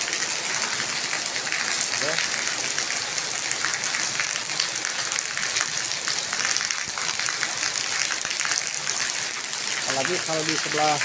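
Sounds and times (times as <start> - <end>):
heavy rain on pavement: 0.0 - 11.0
runoff splashing: 0.0 - 11.0.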